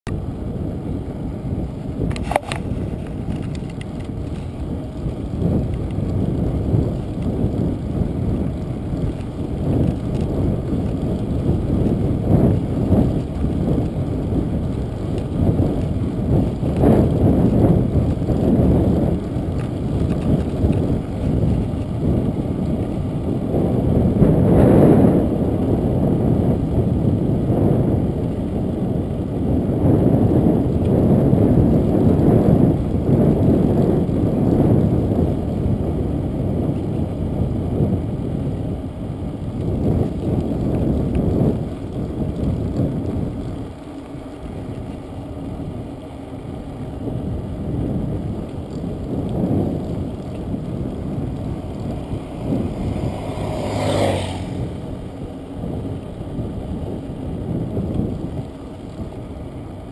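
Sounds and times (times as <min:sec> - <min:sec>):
bicycle tyre road noise: 0:00.1 - 0:59.9
wind buffeting microphone: 0:00.1 - 0:59.9.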